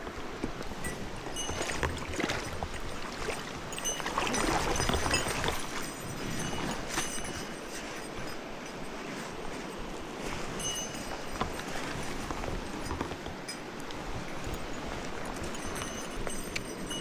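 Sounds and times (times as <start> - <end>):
stream water splashing: 0.0 - 17.0.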